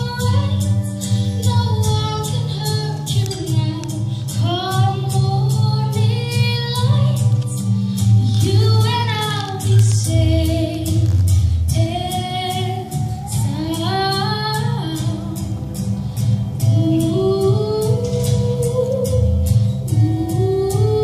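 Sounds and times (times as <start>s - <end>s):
woman singing slow melody: 0.0s - 21.0s.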